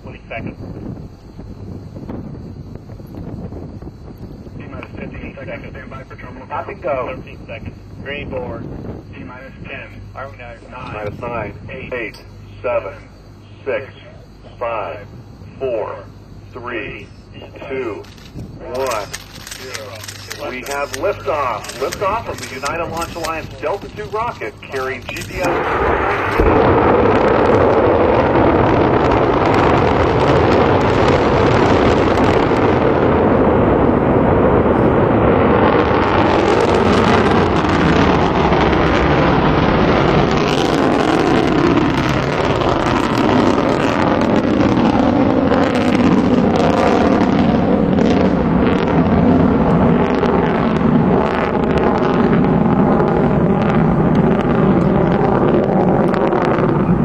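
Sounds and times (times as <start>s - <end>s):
distant rocket engine roar with crackle: 0.0s - 57.0s.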